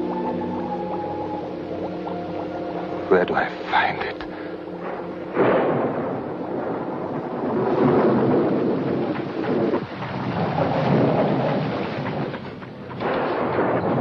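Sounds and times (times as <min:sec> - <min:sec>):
rain: 0:00.0 - 0:14.0
thunder rumbling: 0:00.0 - 0:14.0.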